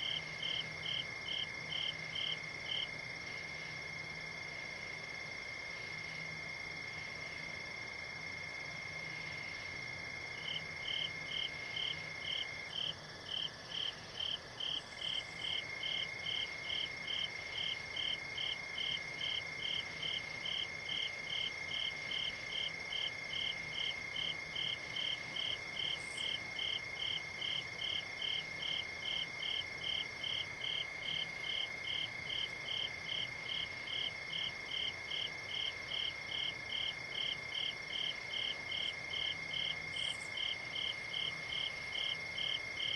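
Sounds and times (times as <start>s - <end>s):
insect chirping rhythmically: 0.0s - 42.9s.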